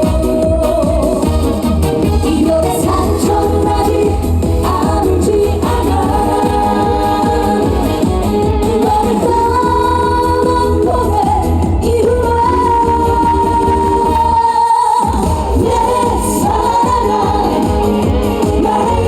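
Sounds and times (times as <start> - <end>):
woman singing: 0.0 - 1.4, 2.2 - 19.0
amplified backing track with beat: 0.0 - 19.0.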